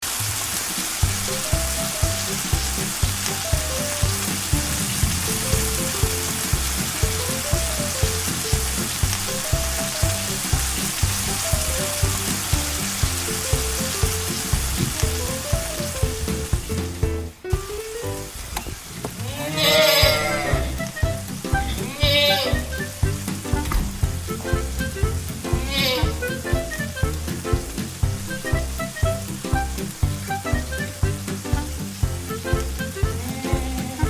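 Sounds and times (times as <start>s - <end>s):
rain hissing: 0.0s - 34.0s
background music with beat: 0.6s - 18.3s, 20.0s - 34.0s.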